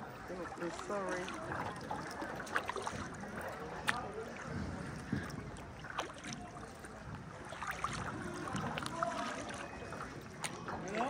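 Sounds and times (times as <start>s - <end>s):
water washing around boat: 0.0s - 11.0s.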